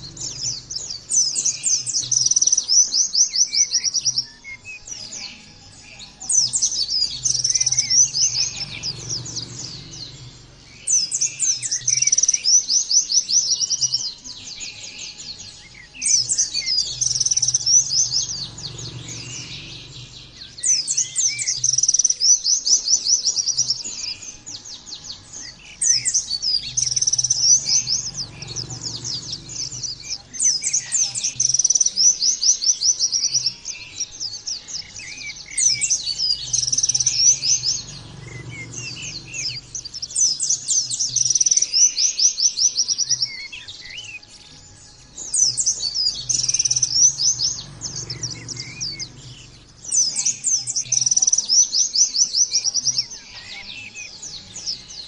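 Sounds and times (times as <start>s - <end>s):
bird singing rapid trills: 0.0s - 55.0s.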